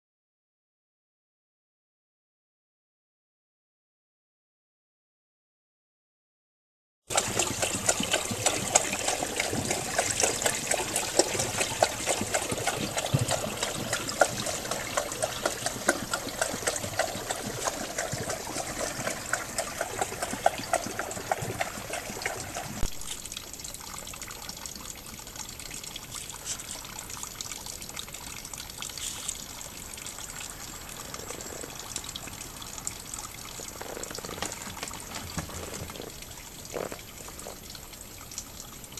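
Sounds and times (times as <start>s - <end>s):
fountain water trickling into basin: 7.1s - 38.9s
water splashing and dripping: 7.1s - 38.9s.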